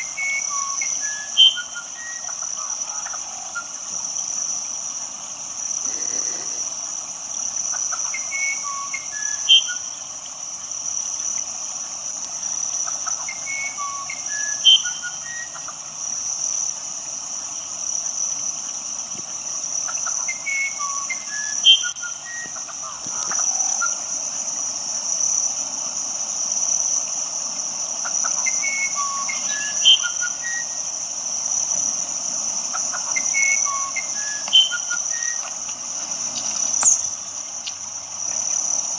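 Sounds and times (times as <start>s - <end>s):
high-pitched insect chorus: 0.0s - 38.9s
running water hiss: 0.0s - 38.9s.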